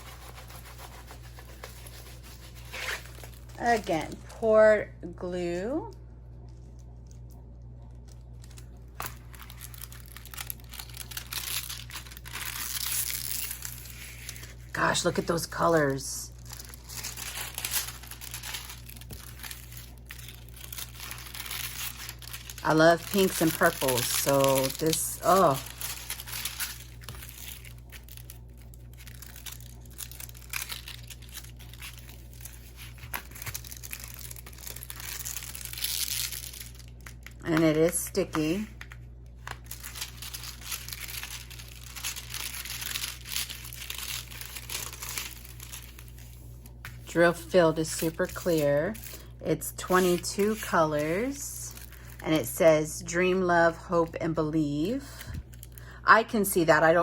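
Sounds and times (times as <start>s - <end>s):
plastic packaging crinkling: 0.0s - 4.4s, 6.3s - 52.6s, 54.8s - 56.0s.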